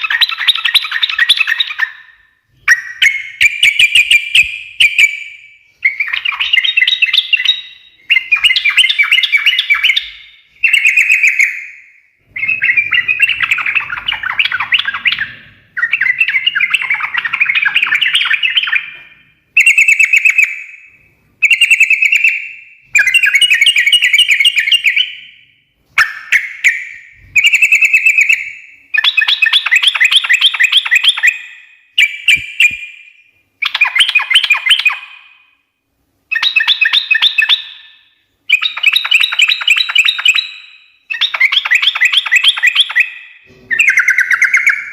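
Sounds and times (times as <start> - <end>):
bird chattering song: 0.0 - 35.5, 36.3 - 44.9.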